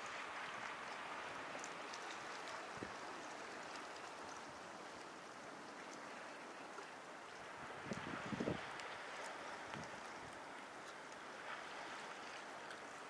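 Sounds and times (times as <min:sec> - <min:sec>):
surf hissing on shore: 0:00.0 - 0:13.0.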